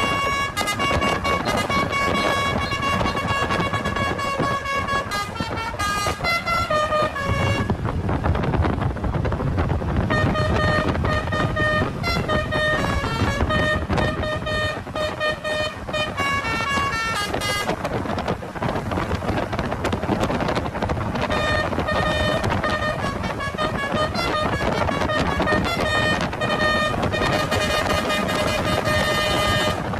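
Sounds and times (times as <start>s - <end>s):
bus musical air horn: 0.0s - 8.3s, 9.9s - 19.1s, 21.0s - 29.9s.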